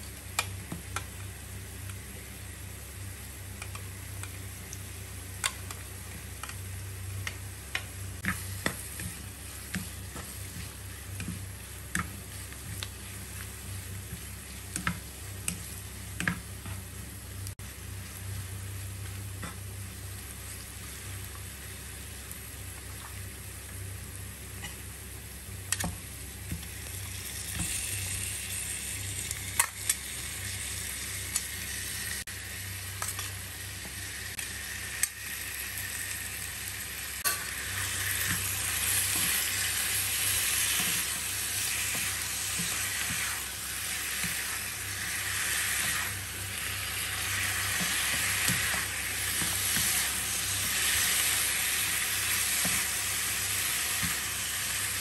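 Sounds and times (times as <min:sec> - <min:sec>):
food sizzling in oil: 0:00.0 - 0:55.0
steady low hum: 0:00.0 - 0:55.0.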